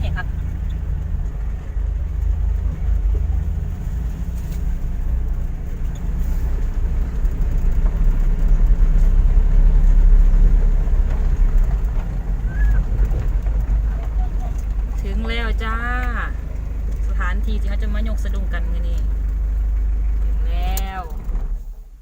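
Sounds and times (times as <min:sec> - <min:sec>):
vehicle rumbling on dirt track: 0:00.0 - 0:22.0.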